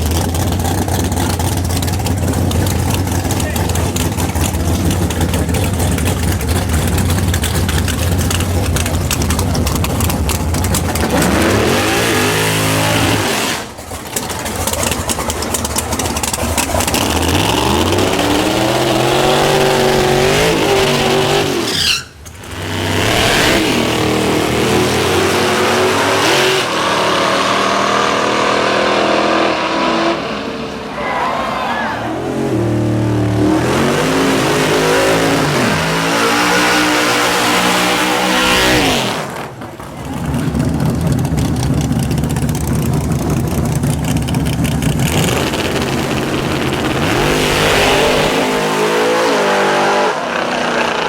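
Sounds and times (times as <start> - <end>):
drag race car engines accelerating: 0.0 - 51.0.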